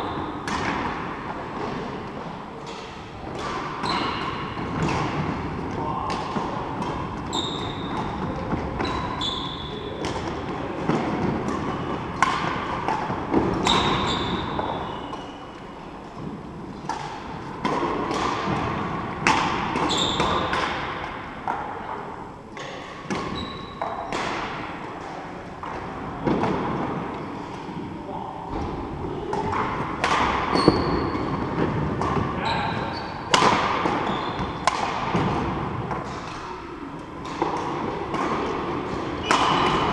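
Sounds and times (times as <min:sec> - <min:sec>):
rackets hitting shuttlecock: 0:00.3 - 0:01.8, 0:02.6 - 0:15.6, 0:16.2 - 0:21.8, 0:22.6 - 0:27.0, 0:28.6 - 0:39.9.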